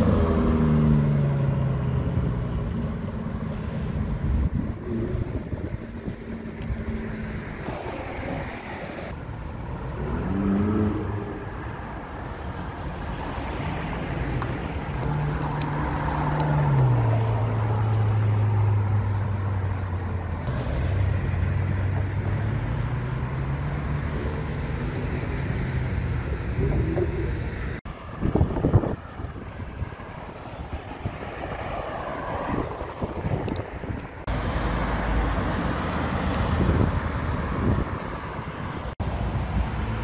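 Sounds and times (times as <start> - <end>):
passing traffic: 0.0 - 40.0.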